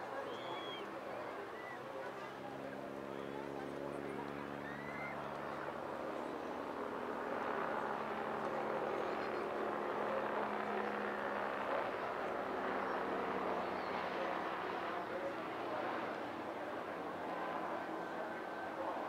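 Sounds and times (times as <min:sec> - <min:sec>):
helicopter flying past: 0:00.0 - 0:19.0.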